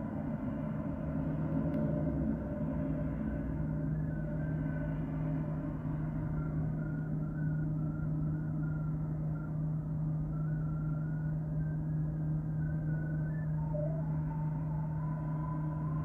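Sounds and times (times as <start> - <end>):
low machine hum: 0.0 - 16.0
rumble: 0.0 - 16.0.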